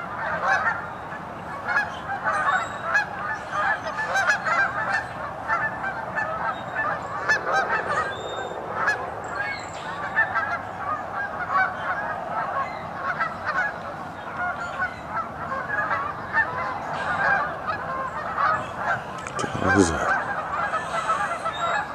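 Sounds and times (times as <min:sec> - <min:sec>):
geese honking: 0:00.0 - 0:21.9.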